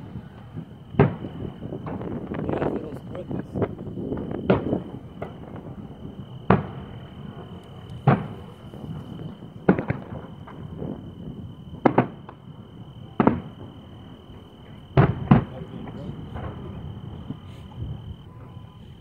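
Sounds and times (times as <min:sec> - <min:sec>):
distant fireworks booming: 0:00.0 - 0:19.0.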